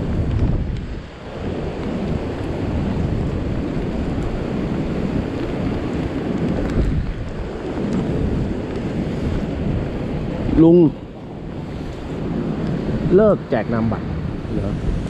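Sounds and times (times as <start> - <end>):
sea surf: 0.0 - 15.0
strong wind on microphone: 0.0 - 15.0.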